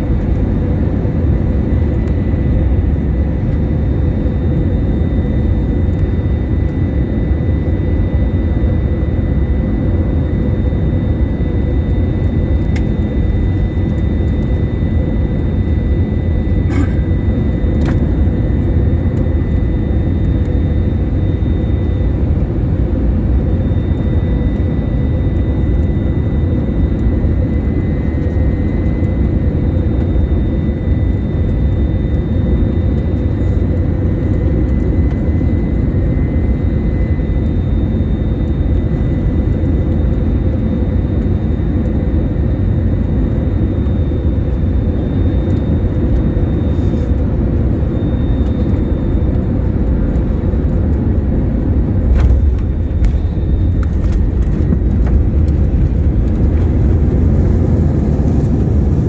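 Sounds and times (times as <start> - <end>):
airflow and jet engine rush: 0.0 - 59.0
faint steady whine: 0.0 - 59.0.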